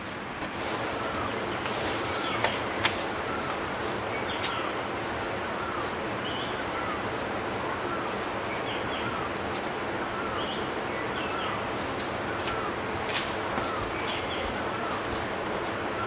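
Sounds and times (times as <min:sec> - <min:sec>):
small birds chirping: 0:00.0 - 0:16.0
steady hiss: 0:00.0 - 0:16.0.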